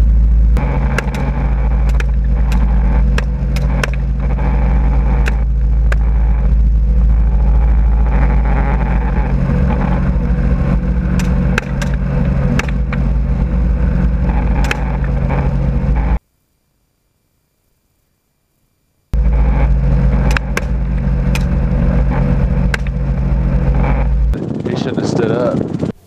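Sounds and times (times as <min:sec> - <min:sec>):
helicopter flying: 0:00.0 - 0:16.2, 0:19.1 - 0:26.0.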